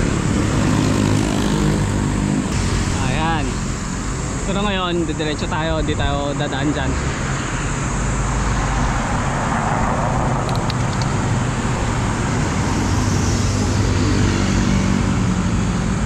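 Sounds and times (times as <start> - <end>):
traffic rushing noise: 0.0 - 16.0
vehicle engine humming: 0.0 - 16.0.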